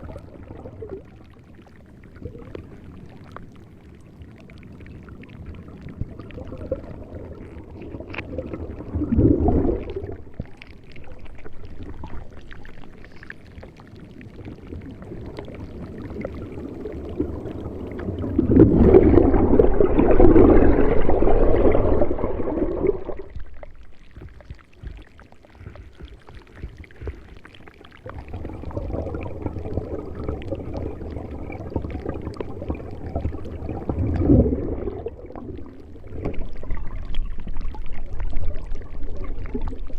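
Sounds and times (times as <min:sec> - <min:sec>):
water rushing and splashing: 0:05.2 - 0:39.9.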